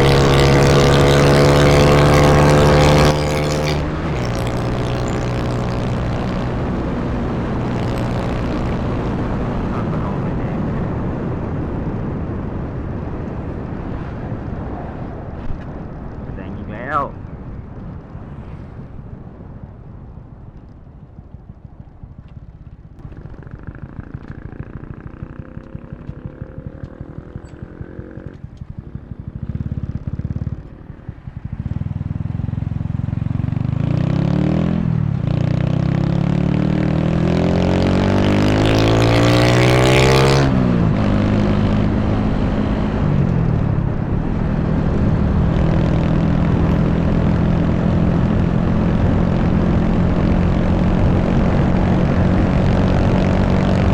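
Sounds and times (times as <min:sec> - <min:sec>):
motorcycle engine accelerating: 0:00.0 - 0:53.9
wind on microphone: 0:00.0 - 0:53.9.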